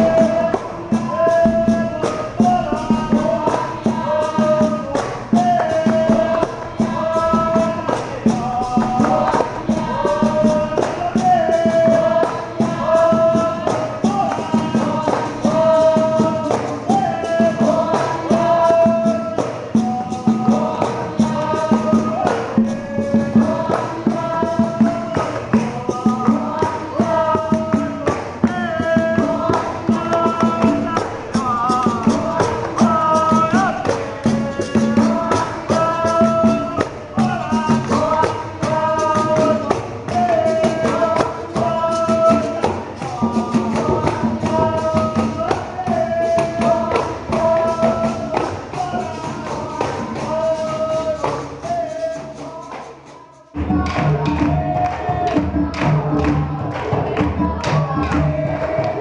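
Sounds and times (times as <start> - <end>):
hand-clapping: 0.0 - 22.8, 23.4 - 51.8, 52.7 - 59.0
group singing: 0.0 - 59.0
hand drum: 0.0 - 59.0.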